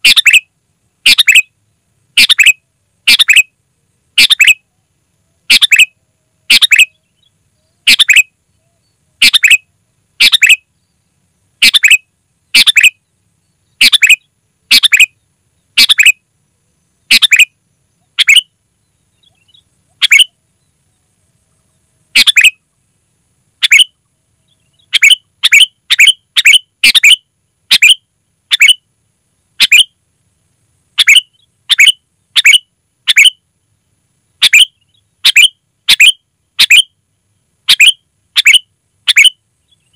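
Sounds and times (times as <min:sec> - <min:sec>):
bird calling clear notes: 0:00.0 - 0:03.5, 0:04.1 - 0:10.7, 0:11.6 - 0:16.2, 0:17.0 - 0:21.0, 0:22.1 - 0:22.7, 0:23.6 - 0:28.8, 0:29.6 - 0:29.9, 0:31.0 - 0:33.4, 0:34.4 - 0:36.9, 0:37.6 - 0:39.9.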